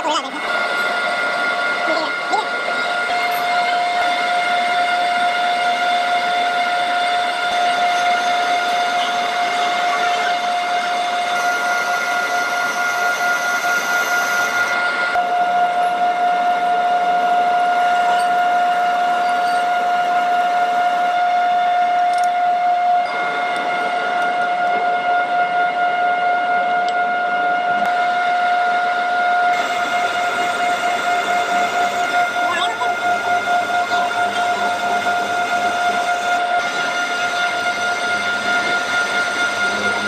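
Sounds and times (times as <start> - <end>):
high-pitched machine whine: 0.0 - 40.0.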